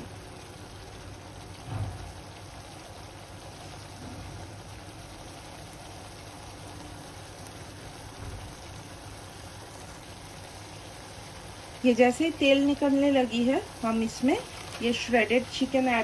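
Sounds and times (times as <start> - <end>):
thick gravy bubbling: 0.0 - 16.0.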